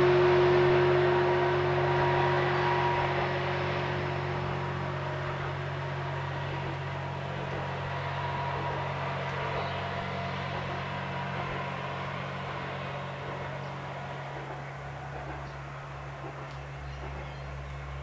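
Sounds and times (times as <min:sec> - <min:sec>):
diesel railcar engine droning: 0:00.0 - 0:18.0.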